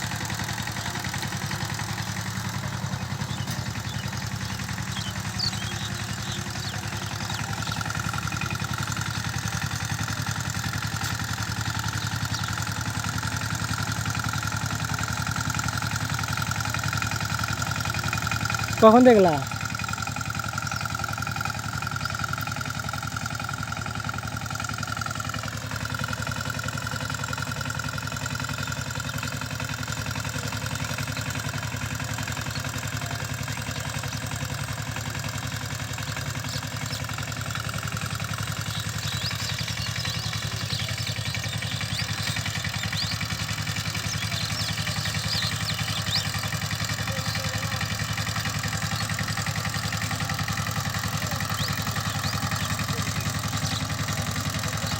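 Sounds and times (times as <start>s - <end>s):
engine whine: 0.0s - 24.3s, 27.3s - 54.9s
diesel engine running: 0.0s - 54.9s.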